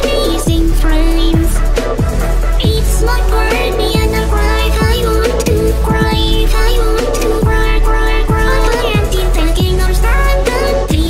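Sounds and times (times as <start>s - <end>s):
deep kick drums: 0.0s - 10.2s
electronic dance music: 0.0s - 11.0s
heavy bass line: 0.0s - 11.0s.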